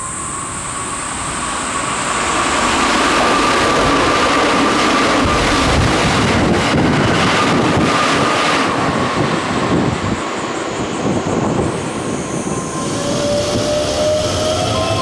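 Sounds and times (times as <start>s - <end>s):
electric train passing with whine: 0.0s - 15.0s
rising train motor whine: 0.0s - 15.0s.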